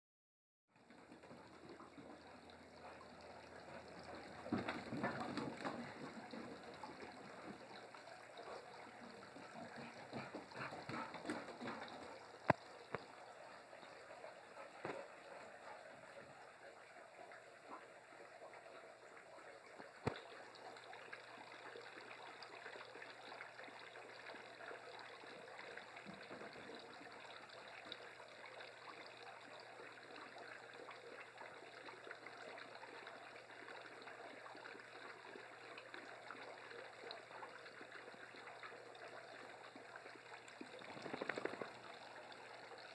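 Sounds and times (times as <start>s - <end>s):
fountain trickling: 0.8s - 42.9s.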